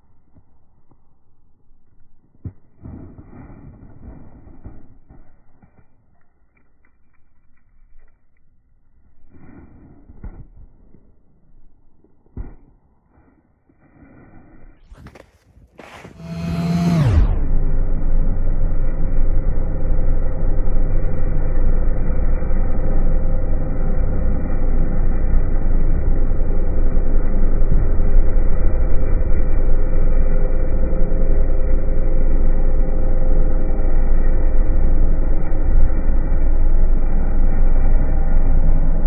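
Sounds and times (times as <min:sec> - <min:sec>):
snowmobile engine rumbling: 0:00.0 - 0:06.1, 0:06.8 - 0:39.0.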